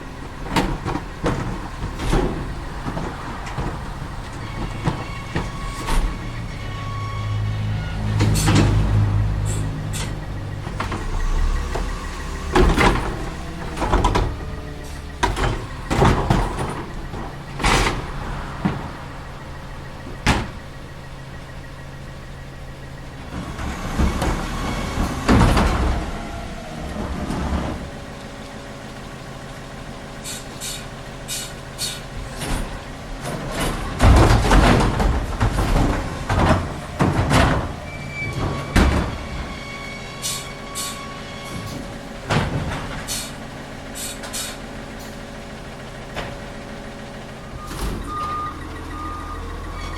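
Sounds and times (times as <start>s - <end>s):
hydraulic whine: 0.0s - 28.3s, 30.2s - 49.9s
garbage truck engine running: 0.0s - 49.9s.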